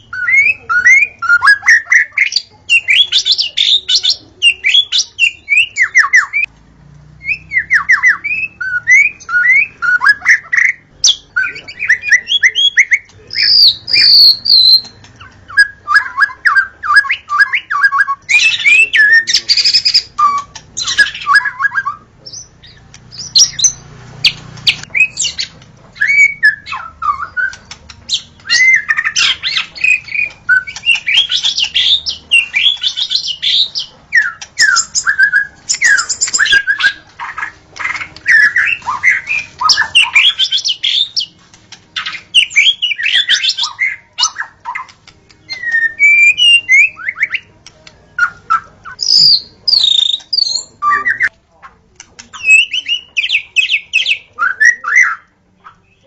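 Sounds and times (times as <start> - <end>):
bird singing whistled phrases: 0.0 - 6.5, 7.2 - 41.3, 42.0 - 47.5, 48.2 - 51.3, 52.3 - 56.0.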